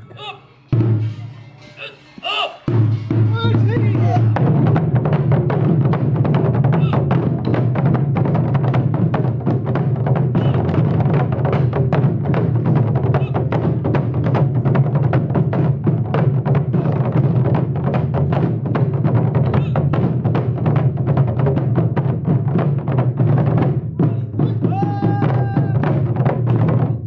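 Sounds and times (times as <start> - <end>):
drum ensemble playing fast rhythm: 0.0 - 27.0.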